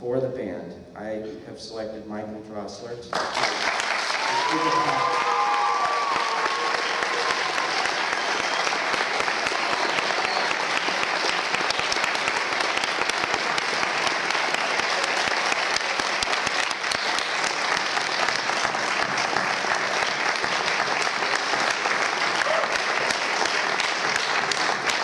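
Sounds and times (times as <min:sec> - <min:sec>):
audience applauding: 0:03.1 - 0:25.0.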